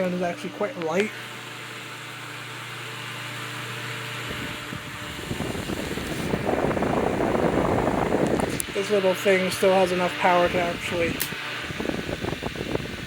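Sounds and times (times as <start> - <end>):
desk fan motor hum: 0.0 - 13.0.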